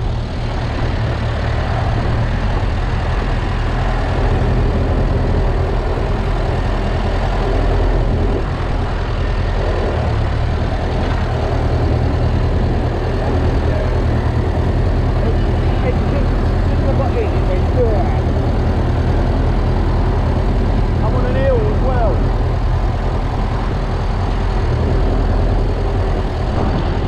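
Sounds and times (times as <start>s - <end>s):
tractor engine humming: 0.0s - 27.0s.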